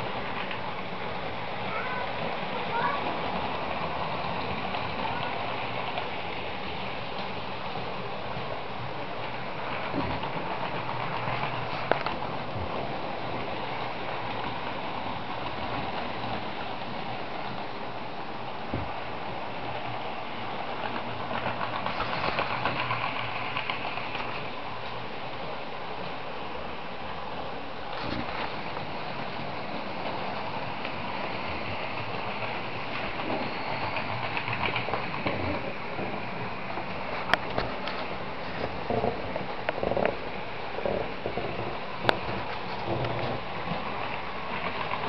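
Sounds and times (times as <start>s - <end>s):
model trains whirring on track: 0.0s - 45.0s.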